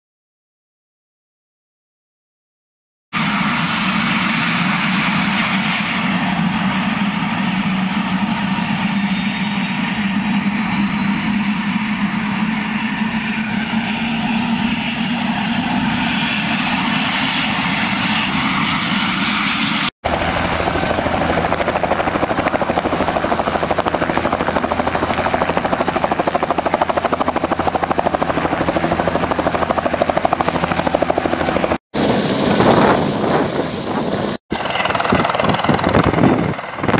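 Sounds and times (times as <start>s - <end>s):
helicopter engine whine: 3.2s - 36.9s
helicopter rotors turning: 3.2s - 36.9s.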